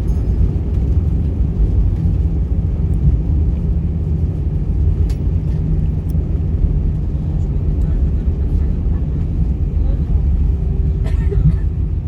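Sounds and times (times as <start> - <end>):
aircraft engine and rolling rumble: 0.0 - 12.0.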